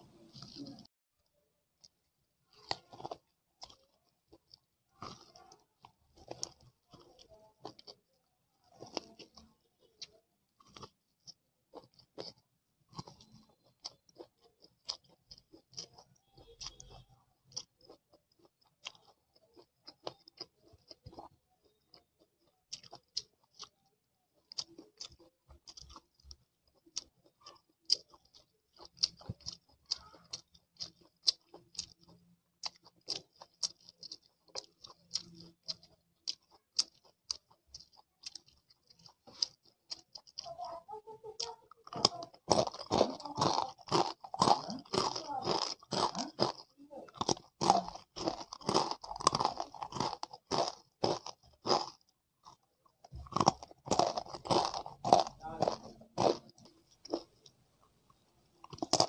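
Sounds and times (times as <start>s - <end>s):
person chewing crunchy food: 0.0s - 0.9s, 1.8s - 59.0s.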